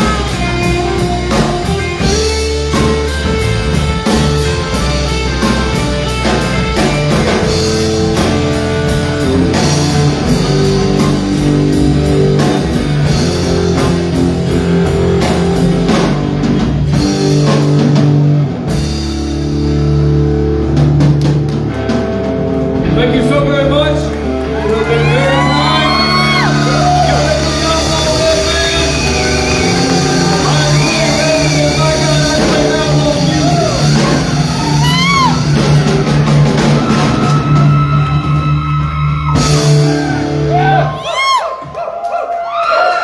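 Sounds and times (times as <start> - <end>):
live rock band playing: 0.0 - 41.8.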